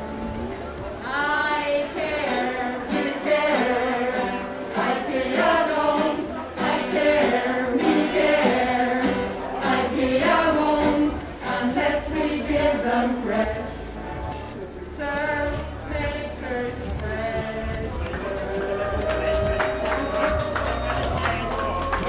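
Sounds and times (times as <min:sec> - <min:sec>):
voices singing along: 0:01.0 - 0:14.0, 0:15.0 - 0:21.0.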